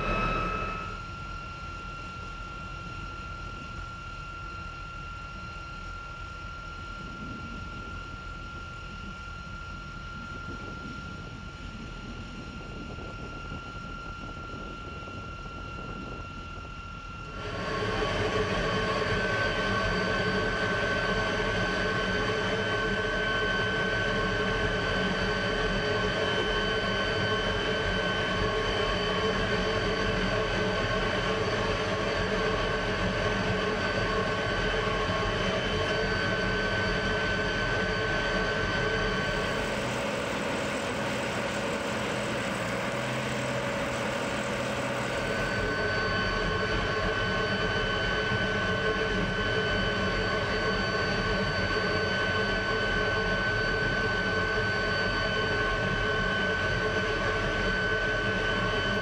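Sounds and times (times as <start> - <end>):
jet engine whine and rumble: 0.0 - 59.0.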